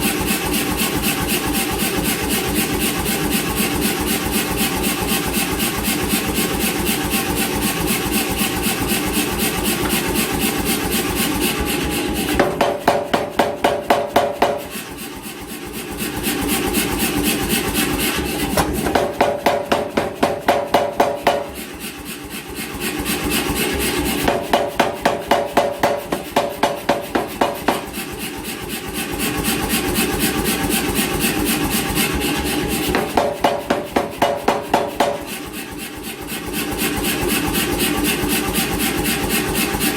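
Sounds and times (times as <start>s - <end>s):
power hammer running: 0.0s - 39.9s.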